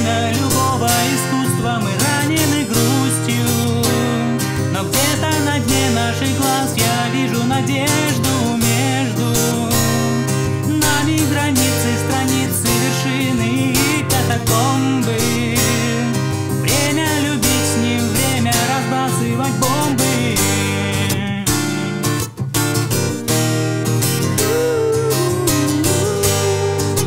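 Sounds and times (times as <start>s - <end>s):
man singing rock song: 0.0s - 21.9s, 24.3s - 27.0s
acoustic guitar strumming: 0.0s - 27.0s.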